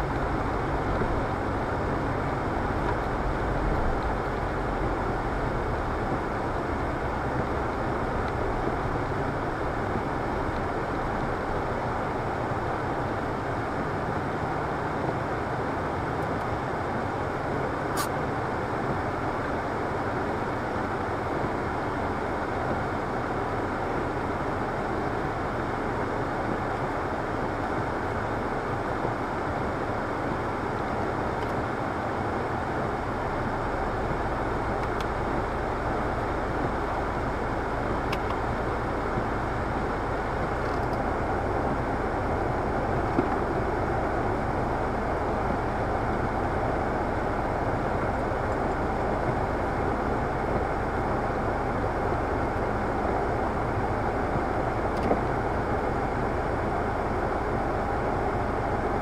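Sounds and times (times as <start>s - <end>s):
rain rushing on a car: 0.0s - 59.0s.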